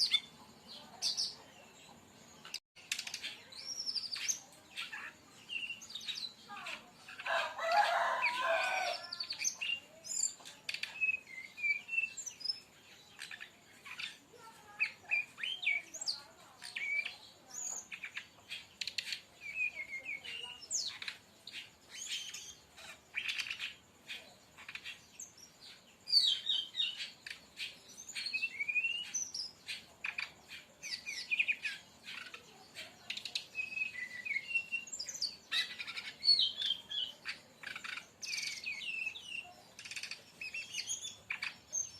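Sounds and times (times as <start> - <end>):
bird song with chirps and ticks: 0.0 - 41.9.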